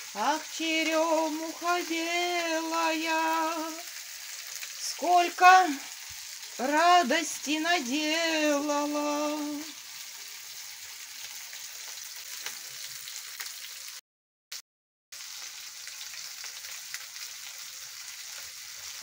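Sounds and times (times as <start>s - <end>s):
fish frying in oil: 0.0s - 19.0s.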